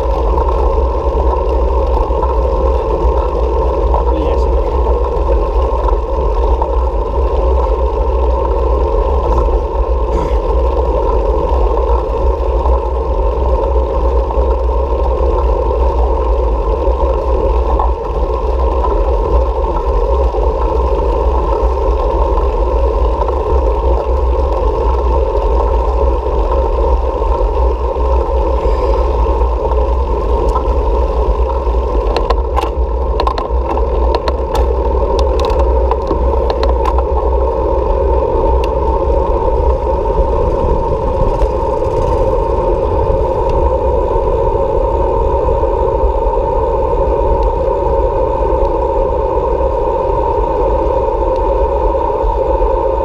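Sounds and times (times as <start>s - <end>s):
road rumble: 0.0s - 53.0s
wind rush on microphone: 0.0s - 53.0s.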